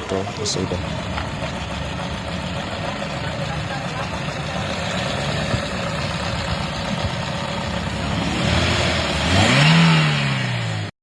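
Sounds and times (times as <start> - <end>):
car engine idling and revving: 0.0 - 10.9.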